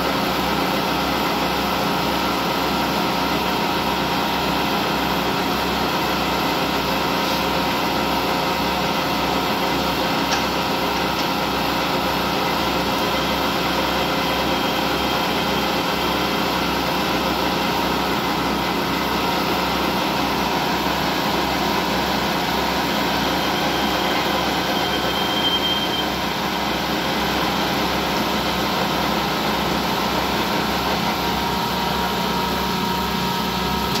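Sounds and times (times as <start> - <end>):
lathe machine hum: 0.0 - 34.0.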